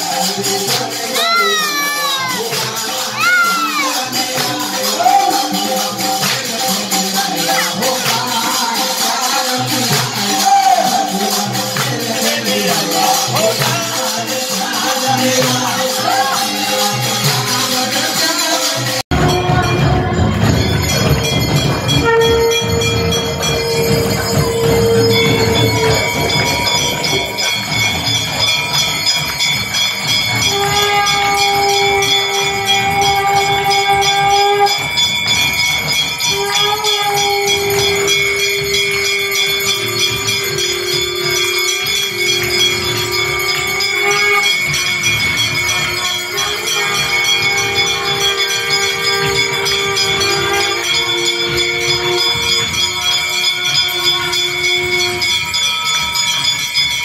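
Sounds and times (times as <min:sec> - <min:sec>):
brass bells ringing rapidly: 0:00.0 - 0:57.0.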